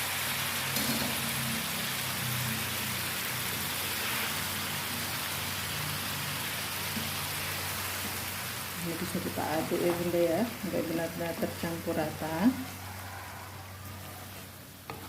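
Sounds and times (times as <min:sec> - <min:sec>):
chili paste sizzling in a wok: 0:00.0 - 0:15.0.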